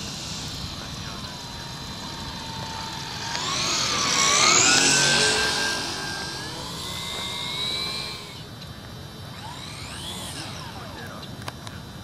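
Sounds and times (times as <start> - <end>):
rc airplane motor whining: 0.0 - 12.0.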